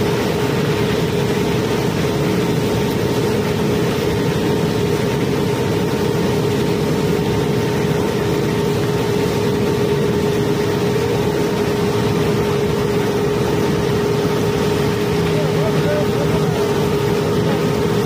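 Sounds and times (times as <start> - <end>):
machine droning hum: 0.0 - 18.0.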